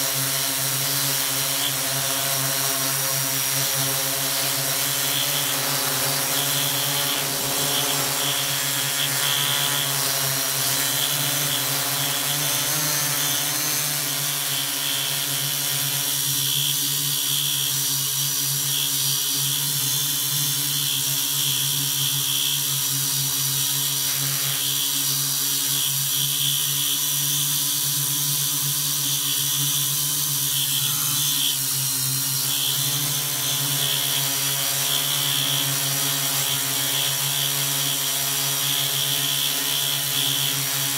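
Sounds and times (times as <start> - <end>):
drone propellers buzzing whine: 0.0 - 40.9.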